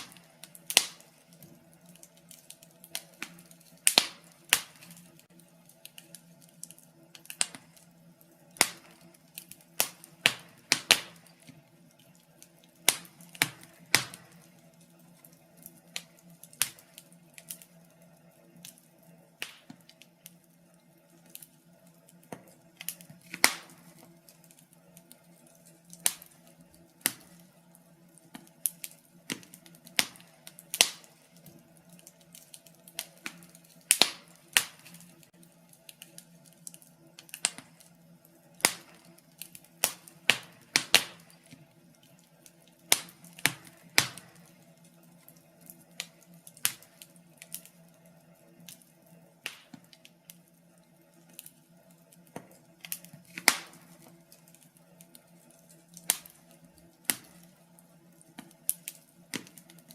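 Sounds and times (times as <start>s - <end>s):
fireplace fire crackling and popping: 0.0s - 59.9s.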